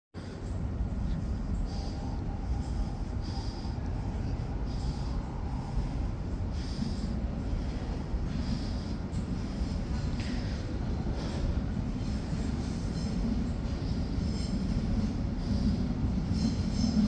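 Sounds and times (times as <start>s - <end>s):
subway train rumble: 0.2s - 17.0s.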